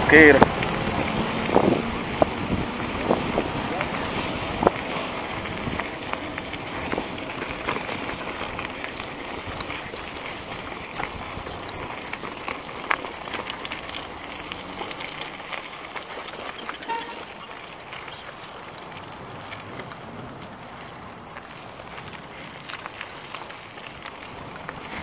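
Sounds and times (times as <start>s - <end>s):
bike tyres on gravel: 0.0s - 25.0s
bike clicks and rattles: 0.1s - 25.0s.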